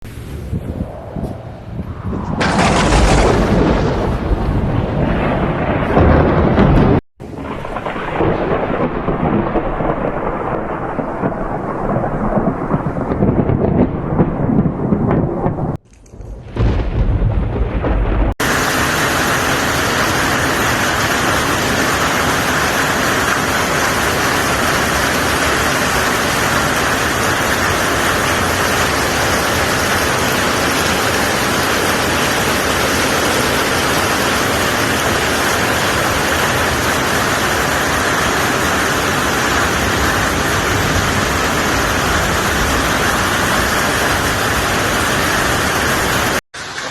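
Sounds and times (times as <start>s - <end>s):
thunder rumbling: 0.0s - 46.9s
heavy downpour hiss: 0.1s - 13.5s, 18.4s - 46.9s
rain: 1.7s - 46.9s.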